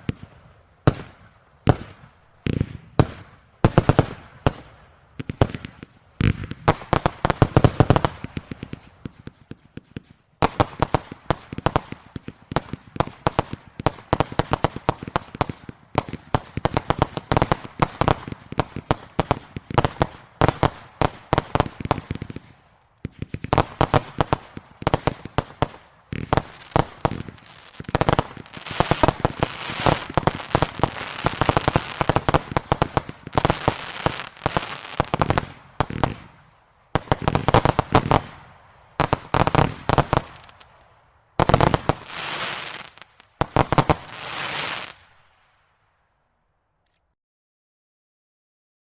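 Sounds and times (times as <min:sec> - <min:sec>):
fireworks bangs: 0:00.9 - 0:40.8, 0:41.4 - 0:45.2.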